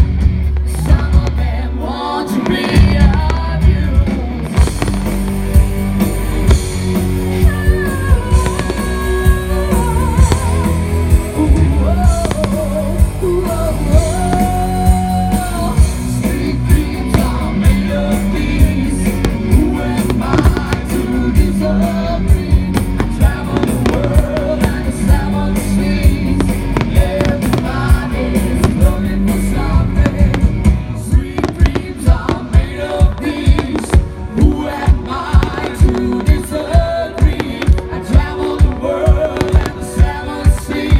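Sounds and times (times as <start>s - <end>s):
fireworks bangs: 0.0s - 7.6s, 8.2s - 15.8s, 16.4s - 40.9s
rock music with singing: 0.0s - 40.9s.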